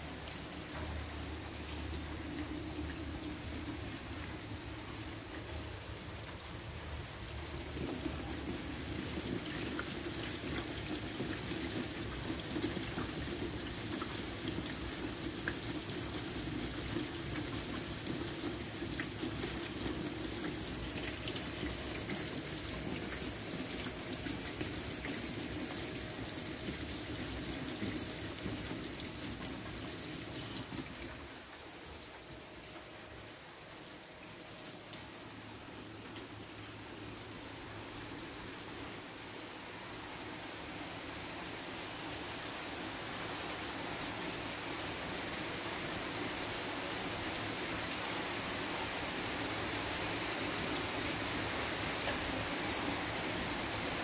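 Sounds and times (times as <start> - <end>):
rain splashing into puddles: 0.0 - 40.0, 40.7 - 54.0.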